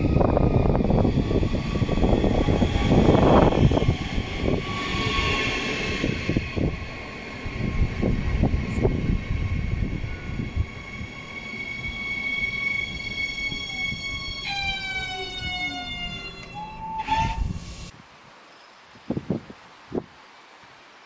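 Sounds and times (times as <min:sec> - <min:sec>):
wheels rumbling on rails: 0:00.0 - 0:17.6
electric train whine: 0:00.0 - 0:17.9.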